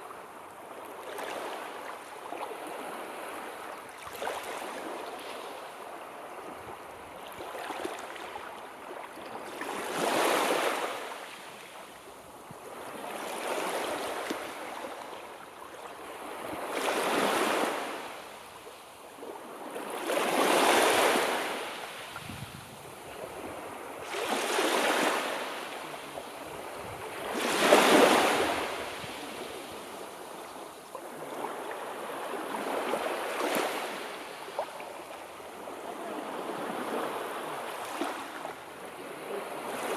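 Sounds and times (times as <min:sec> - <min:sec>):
sea waves rolling in: 0:00.0 - 0:39.9.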